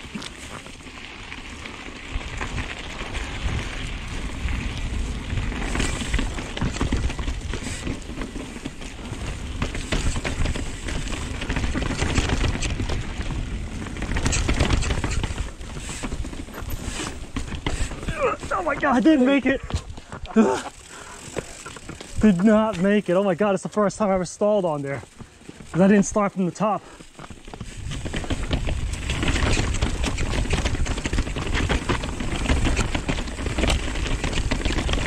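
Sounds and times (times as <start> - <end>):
bike clicking and clattering: 0.0 - 35.0
tyres rumbling over dirt: 0.0 - 35.0.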